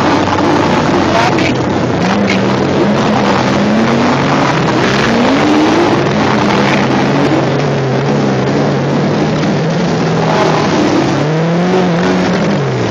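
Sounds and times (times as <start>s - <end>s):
sports car engines revving: 0.0s - 12.9s.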